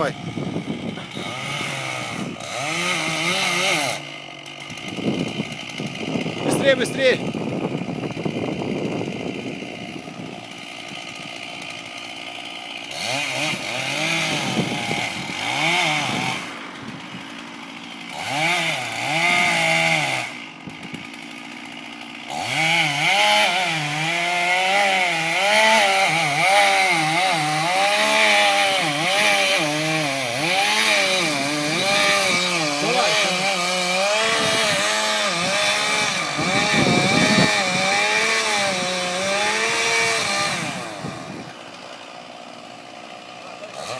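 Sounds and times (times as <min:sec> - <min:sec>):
chainsaw cutting into tree trunk: 0:00.0 - 0:43.9.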